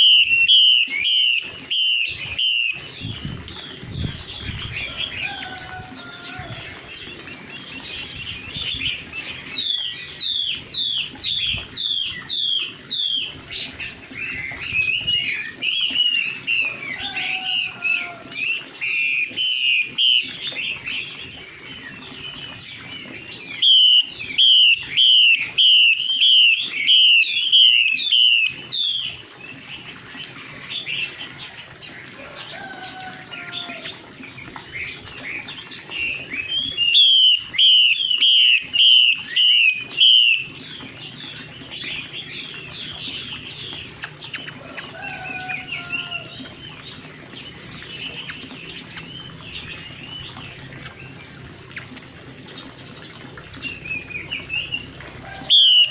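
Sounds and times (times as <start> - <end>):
bird warbling song: 0.0 - 55.9.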